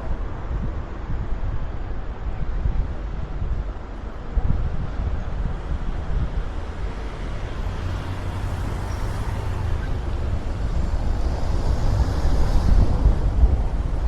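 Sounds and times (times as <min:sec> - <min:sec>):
road traffic noise: 0:00.0 - 0:14.0
wind rumble on microphone: 0:00.0 - 0:14.0.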